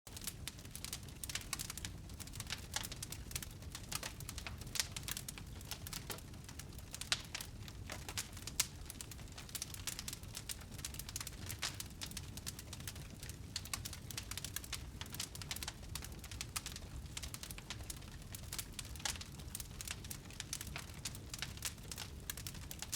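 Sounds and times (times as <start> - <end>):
wood fire crackling: 0.1 - 22.9.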